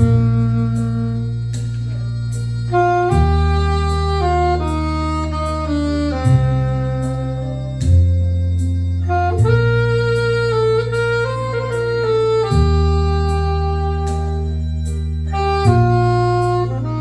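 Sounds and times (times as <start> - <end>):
backing track with held bass: 0.0 - 17.0
solo melody instrument: 0.0 - 17.0.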